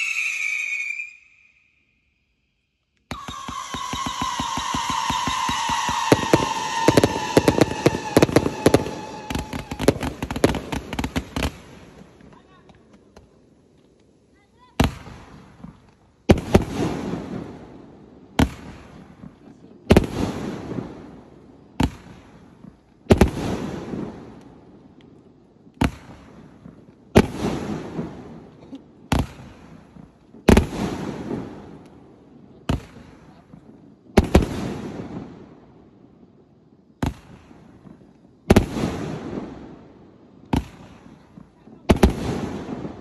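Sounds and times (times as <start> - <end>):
fireworks cake sharp bangs: 3.1 - 13.4, 14.6 - 24.7, 25.7 - 35.4, 36.9 - 43.0.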